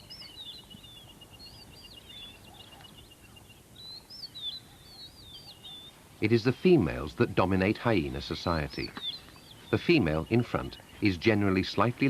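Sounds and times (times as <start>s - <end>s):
birds singing whistled phrases: 0.0s - 7.1s, 8.0s - 12.0s.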